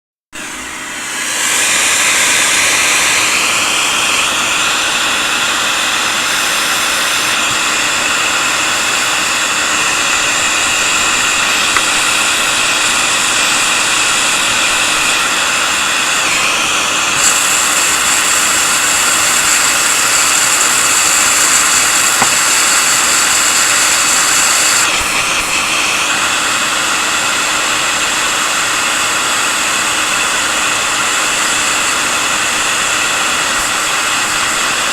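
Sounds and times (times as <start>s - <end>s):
air tool hissing: 0.4s - 34.9s.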